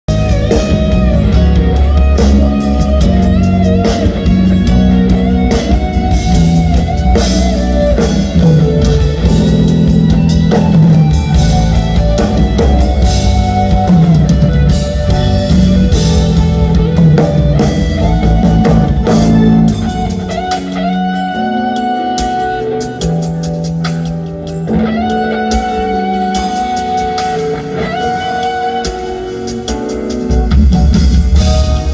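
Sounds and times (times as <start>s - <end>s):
bass guitar: 0.0s - 31.9s
drum kit: 0.0s - 31.9s
electric guitar: 0.0s - 31.9s.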